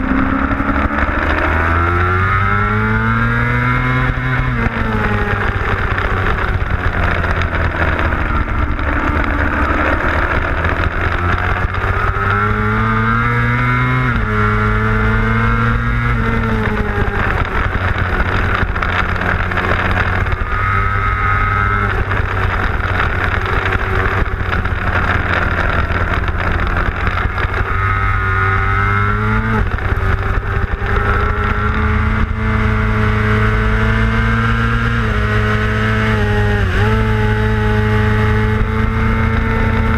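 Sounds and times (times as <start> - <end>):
motorbike engine revving: 0.0 - 39.9
wind noise: 0.0 - 39.9.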